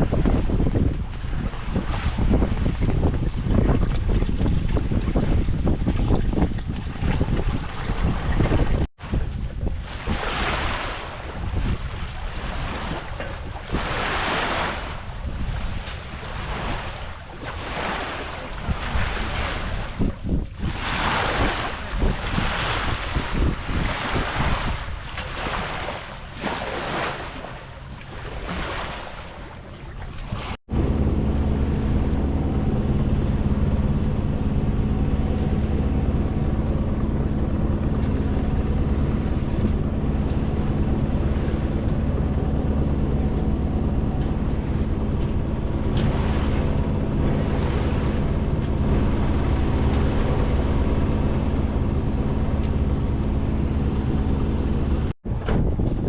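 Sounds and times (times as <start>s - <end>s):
boat motor droning: 0.0s - 56.0s
wind and water rushing: 0.0s - 56.0s
wind buffeting microphone: 0.0s - 56.0s.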